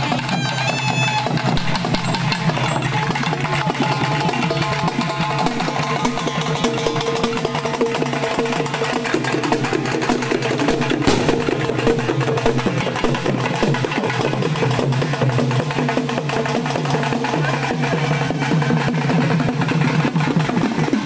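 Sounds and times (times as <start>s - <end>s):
barrel drums beaten fast: 0.0s - 21.0s.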